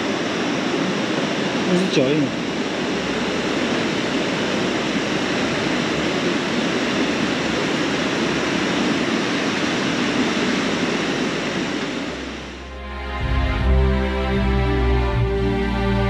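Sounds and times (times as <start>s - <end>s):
fast river rushing: 0.0s - 16.0s.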